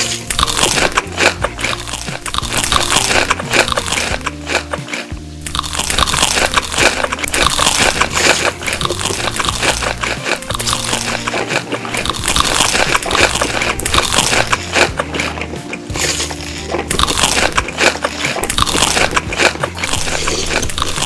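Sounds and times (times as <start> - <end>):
background music with bass: 0.0 - 21.0
person crunching food: 0.0 - 21.0.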